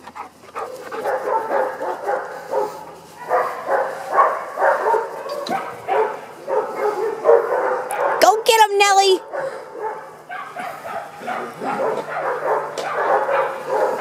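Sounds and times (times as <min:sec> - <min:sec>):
dogs barking and yipping: 0:00.0 - 0:14.0.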